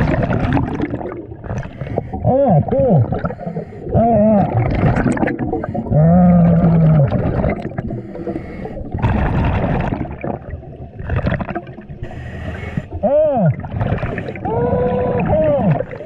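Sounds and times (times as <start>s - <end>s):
underwater breathing bubbles: 0.0s - 16.0s.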